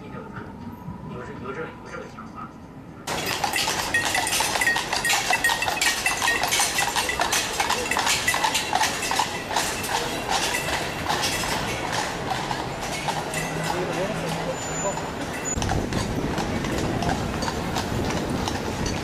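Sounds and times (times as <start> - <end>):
horse hooves clip-clopping on road: 3.1 - 19.0.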